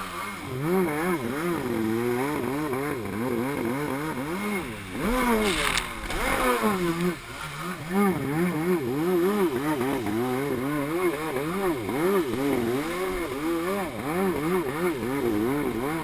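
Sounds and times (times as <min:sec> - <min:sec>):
jet ski engine revving: 0:00.0 - 0:16.0.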